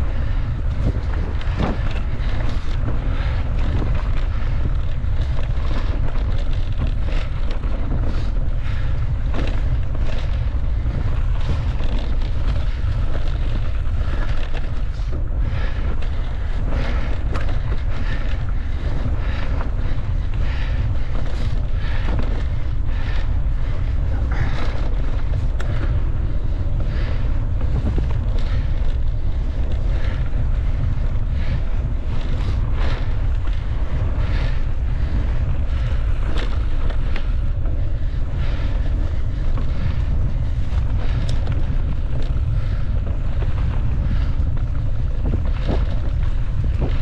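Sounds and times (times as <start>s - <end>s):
bike rattles and knocks: 0.0s - 47.0s
wind buffeting microphone: 0.0s - 47.0s.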